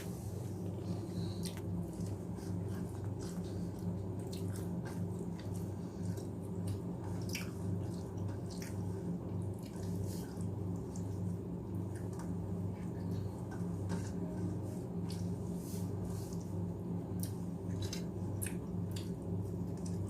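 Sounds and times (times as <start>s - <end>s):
chewing food: 0.6s - 15.4s, 16.3s - 20.0s.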